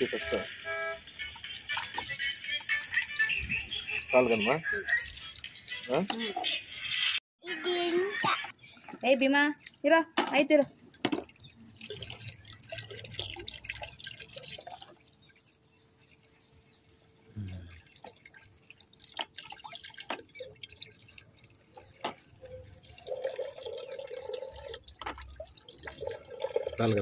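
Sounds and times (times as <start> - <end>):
dripping water: 1.1 - 3.8, 4.8 - 6.4, 7.8 - 16.4, 17.5 - 27.0.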